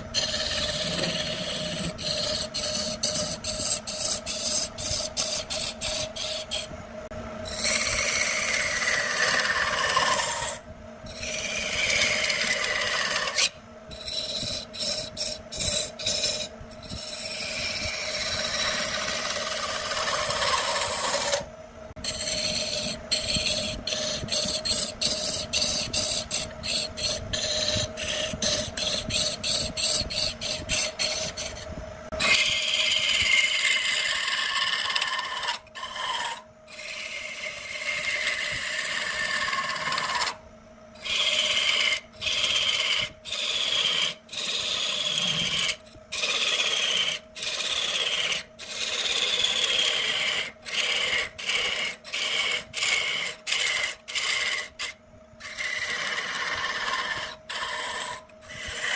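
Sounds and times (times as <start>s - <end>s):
turning tool cutting wood: 0.0s - 6.7s, 7.5s - 40.4s, 41.0s - 58.9s
lathe hum: 0.0s - 58.9s.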